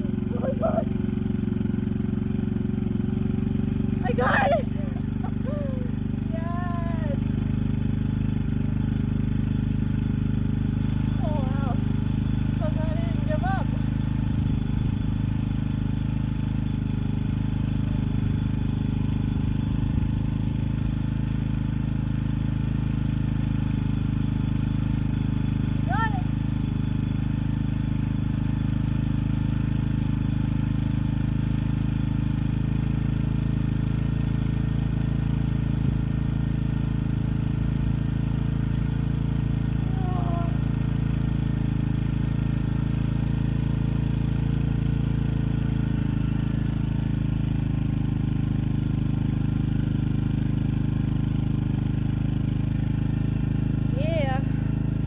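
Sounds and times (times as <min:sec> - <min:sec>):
dirt bike engine idling: 0:00.0 - 0:55.0.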